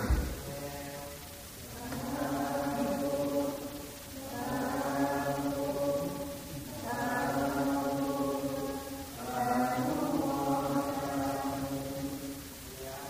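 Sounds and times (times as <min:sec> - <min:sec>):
monotone chanting: 0:00.0 - 0:13.0.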